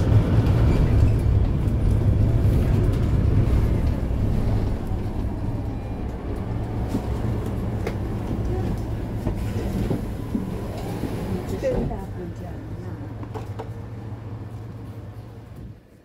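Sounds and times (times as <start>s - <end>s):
bus diesel engine idling: 0.0s - 15.6s.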